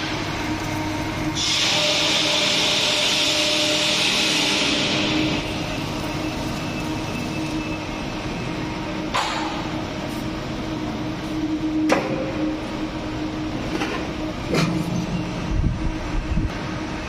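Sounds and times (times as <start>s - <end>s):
workshop machine hum: 0.0s - 17.0s.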